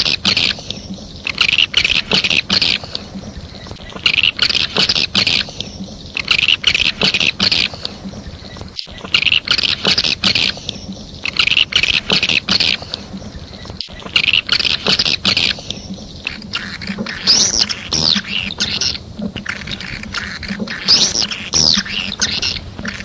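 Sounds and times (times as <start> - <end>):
arched bird chirps: 0.0 - 23.0
swiftlet buzzy twittering: 0.0 - 23.0.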